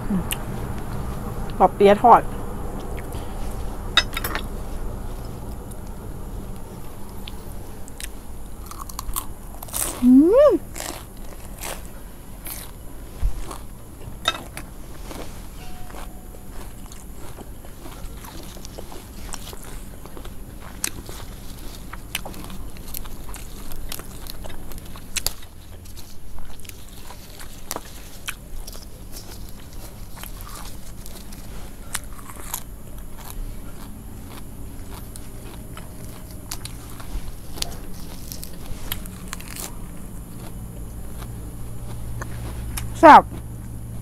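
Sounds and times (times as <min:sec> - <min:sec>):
low steady background hum: 0:00.0 - 0:44.0
crunchy food being chewed: 0:02.7 - 0:44.0.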